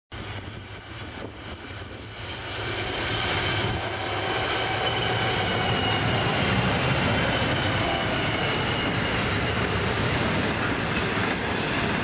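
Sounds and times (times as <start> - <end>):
diesel locomotive engines droning: 0.1 - 12.0
high whine: 0.2 - 11.4.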